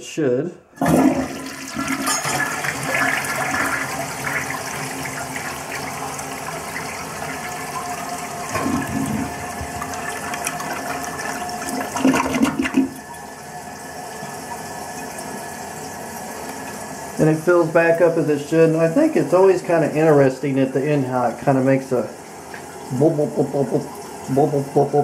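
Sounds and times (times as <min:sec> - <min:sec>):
toilet flushing: 0:00.8 - 0:25.0
toilet refilling: 0:00.8 - 0:25.0.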